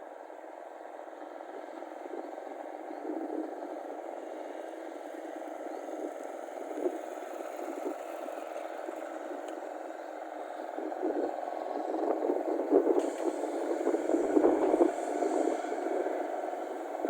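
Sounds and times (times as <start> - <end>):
combine harvester engine: 0.0 - 17.0.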